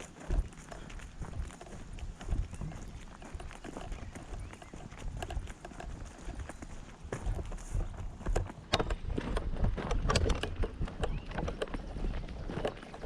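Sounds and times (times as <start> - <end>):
footsteps through undergrowth: 0.0 - 13.0.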